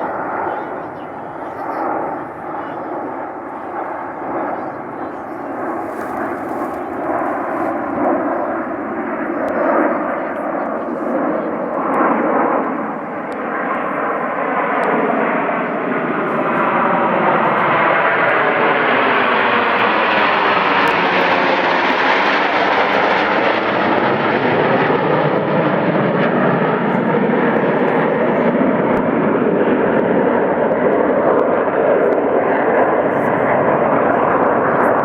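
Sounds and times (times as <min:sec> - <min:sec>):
plane engine flying past: 0:00.0 - 0:35.0.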